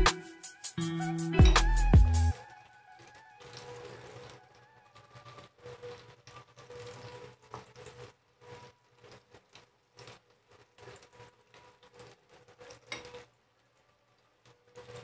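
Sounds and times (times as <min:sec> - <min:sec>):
eggplant frying in oil: 0:02.7 - 0:15.0.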